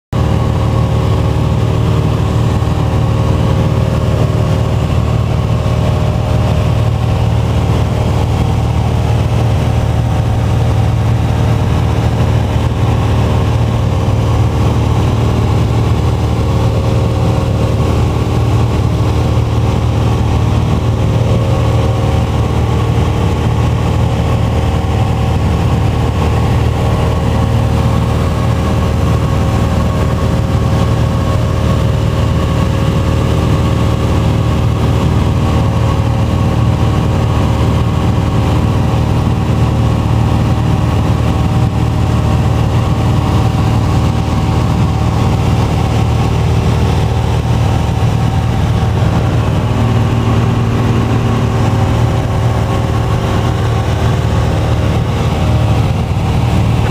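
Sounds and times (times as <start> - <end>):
airplane engine and propeller drone: 0.1 - 56.9.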